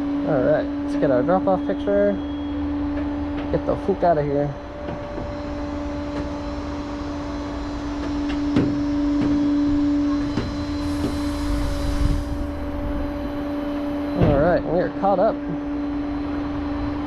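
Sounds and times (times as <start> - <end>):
mechanical drone: 0.0 - 17.0.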